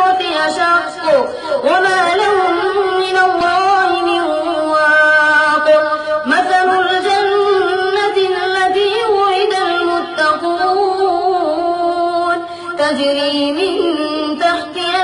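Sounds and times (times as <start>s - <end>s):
melodic recitation by one voice: 0.0s - 15.0s.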